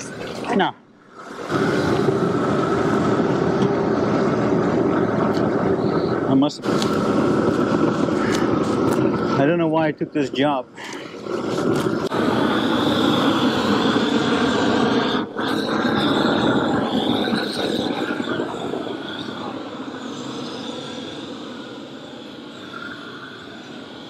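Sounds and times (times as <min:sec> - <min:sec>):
roofing torch flame burning: 0:00.0 - 0:24.0.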